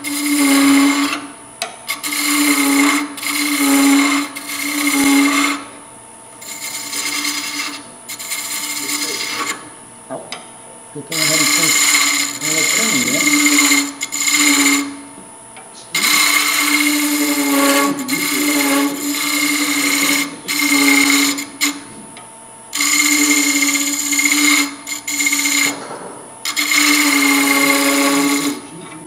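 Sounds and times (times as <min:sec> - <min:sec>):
chisel hissing on spinning wood: 0:00.0 - 0:01.3, 0:01.9 - 0:05.7, 0:06.4 - 0:09.7, 0:11.0 - 0:15.1, 0:15.8 - 0:21.8, 0:22.7 - 0:29.0
wood lathe hum: 0:00.0 - 0:29.0.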